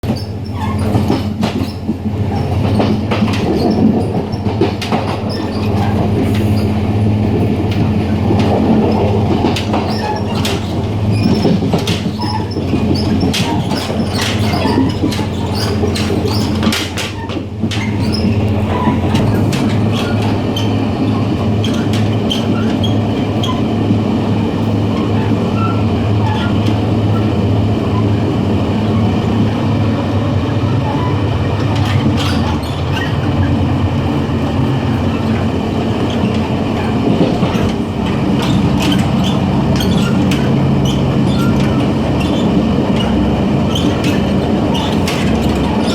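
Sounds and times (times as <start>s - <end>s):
gangway clanks and clicks: 0.0s - 45.9s
train low drone: 0.0s - 45.9s
wheels rumbling on rail: 0.0s - 45.9s.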